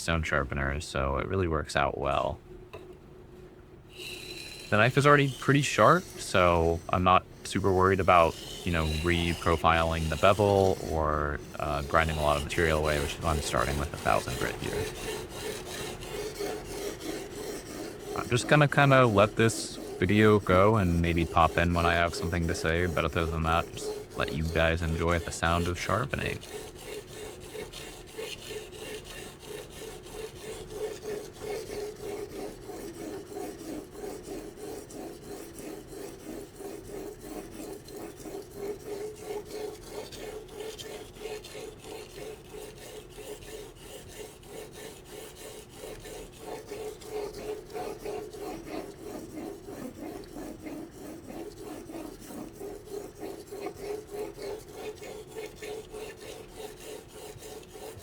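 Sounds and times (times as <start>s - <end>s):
knife rasping on whetstone: 3.9s - 58.0s.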